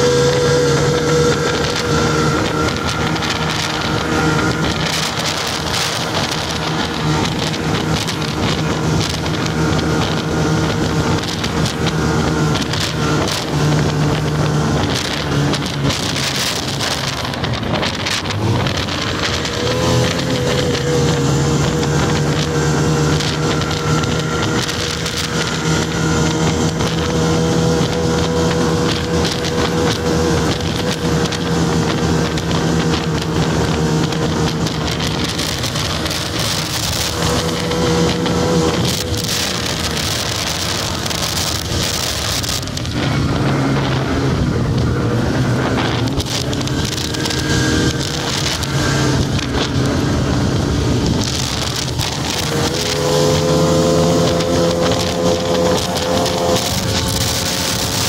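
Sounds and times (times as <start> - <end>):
snowmobile engine running: 0.0 - 58.0
wind noise on microphone: 0.0 - 58.0.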